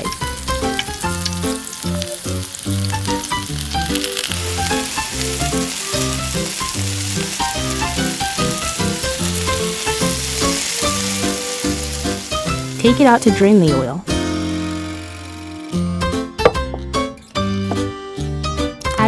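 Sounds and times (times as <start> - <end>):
hot oil sizzling: 0.0 - 18.0
background music with plucked notes: 0.0 - 19.0.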